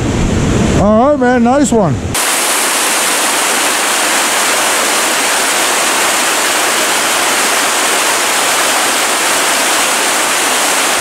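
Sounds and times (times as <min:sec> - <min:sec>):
rushing creek water: 0:02.2 - 0:11.0.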